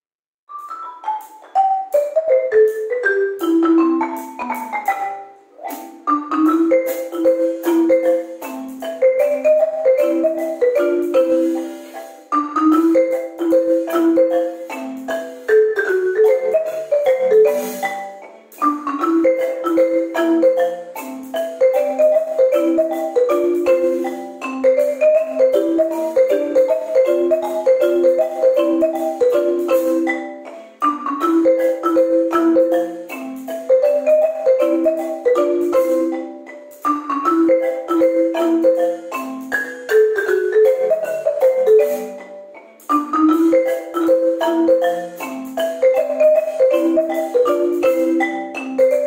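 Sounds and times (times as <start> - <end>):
marimba ragtime duet: 0.5 - 49.0.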